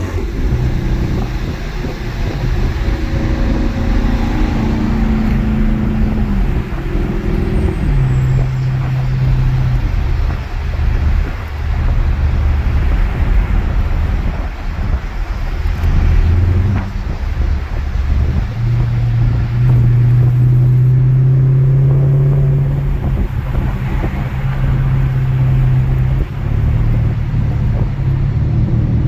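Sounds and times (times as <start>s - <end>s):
car engine running loud: 0.0s - 29.0s.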